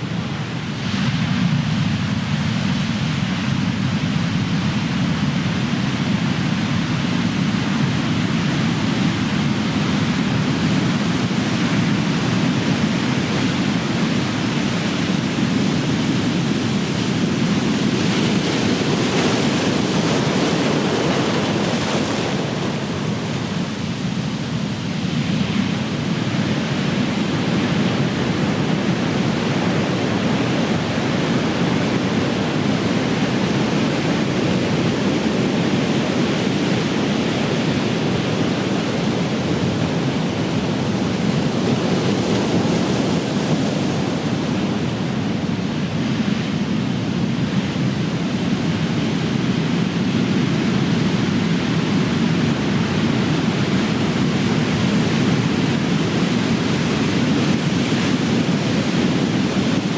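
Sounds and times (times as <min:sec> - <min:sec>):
ocean waves breaking: 0:08.3 - 0:59.9.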